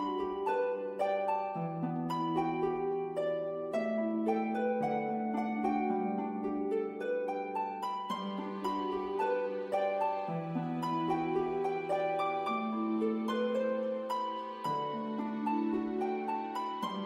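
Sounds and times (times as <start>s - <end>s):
gentle plucked-string music: 0.0s - 17.0s.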